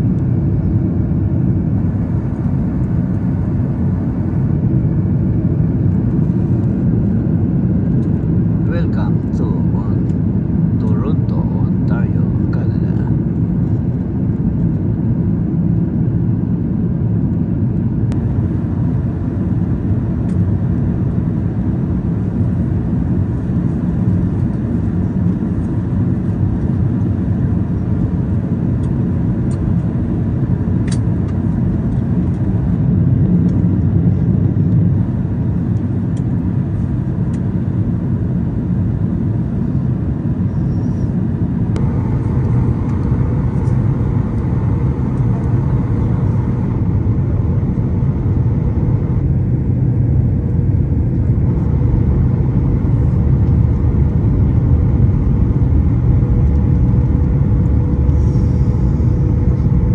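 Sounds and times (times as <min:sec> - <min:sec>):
airliner cabin roar: 0:00.0 - 0:59.9.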